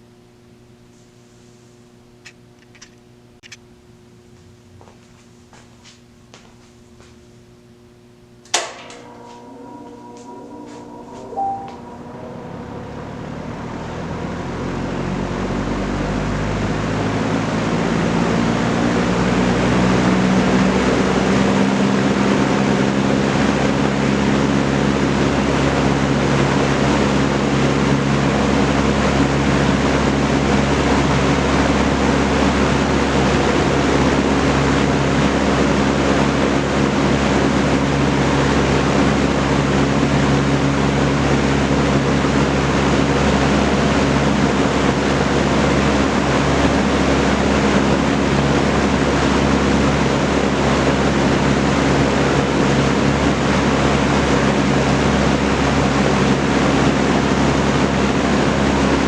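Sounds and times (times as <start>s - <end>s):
box fan running: 0.0s - 59.0s.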